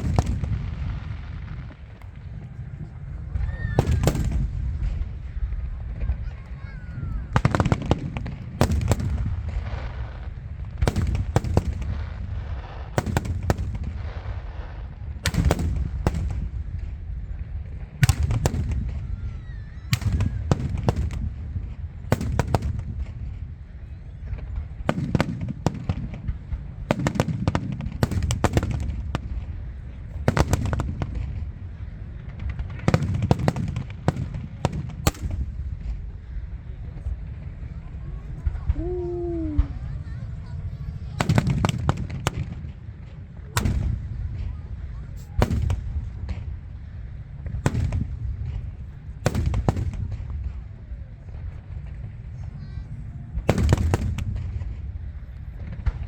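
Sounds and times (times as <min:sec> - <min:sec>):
fireworks bangs: 0:00.0 - 0:56.0
low rolling rumble: 0:00.0 - 0:56.0.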